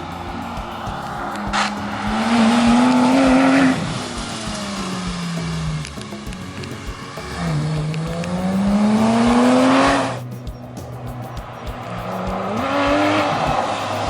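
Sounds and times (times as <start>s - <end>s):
car engine accelerating hard: 0.0s - 10.3s, 11.6s - 14.0s.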